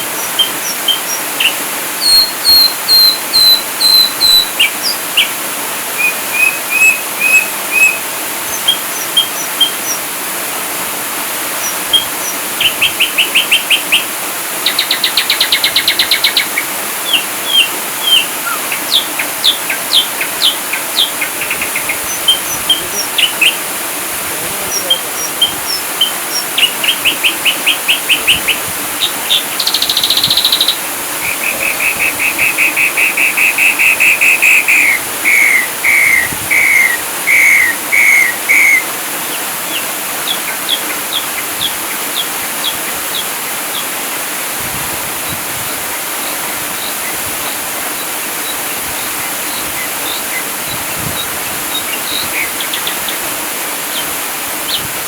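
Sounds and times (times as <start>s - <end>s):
bird singing trills: 0.0s - 10.1s, 11.6s - 23.6s, 24.4s - 43.9s, 46.2s - 53.2s
steady hiss: 0.0s - 55.0s.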